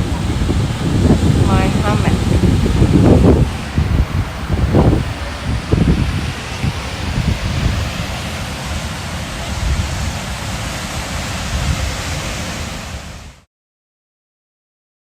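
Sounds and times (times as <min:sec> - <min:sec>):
wind buffeting microphone: 0:00.0 - 0:13.4
ocean surf breaking: 0:00.0 - 0:13.5.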